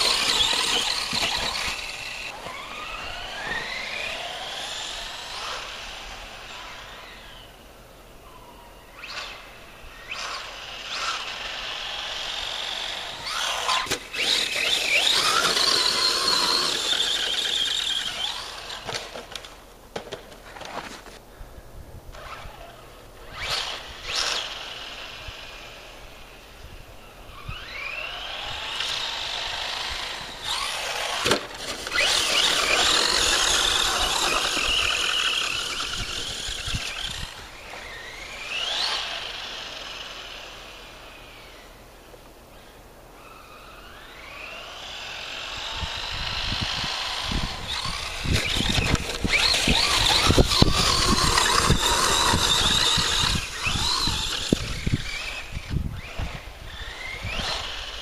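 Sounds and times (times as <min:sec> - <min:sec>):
electric motor whining: 0:00.0 - 0:07.5, 0:08.9 - 0:19.1, 0:27.3 - 0:41.8, 0:42.6 - 0:58.0.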